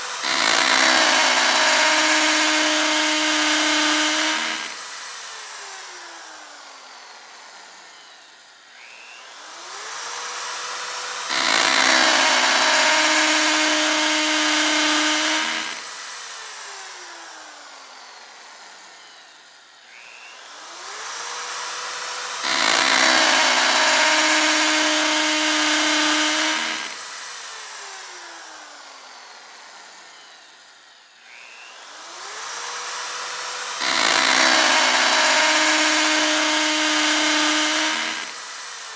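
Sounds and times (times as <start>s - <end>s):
electric drill whining: 0.0s - 38.9s.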